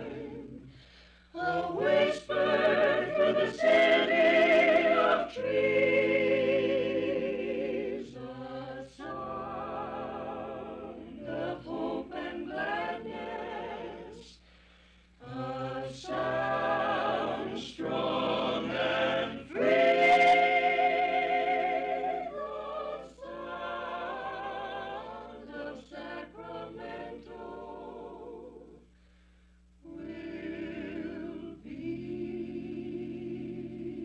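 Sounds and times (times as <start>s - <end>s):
mixed vocal group singing jingle: 0.0s - 0.7s, 1.3s - 14.4s, 15.2s - 28.9s, 29.8s - 34.0s.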